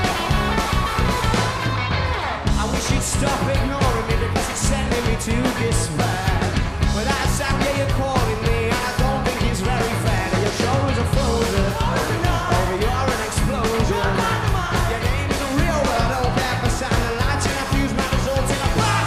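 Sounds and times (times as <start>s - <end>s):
bass guitar: 0.0s - 19.0s
drum kit: 0.0s - 19.0s
electric guitars: 0.0s - 19.0s
vocals: 1.7s - 19.0s.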